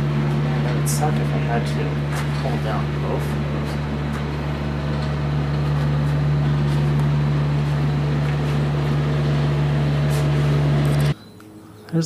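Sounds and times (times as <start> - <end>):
machine humming and whooshing: 0.0 - 11.2.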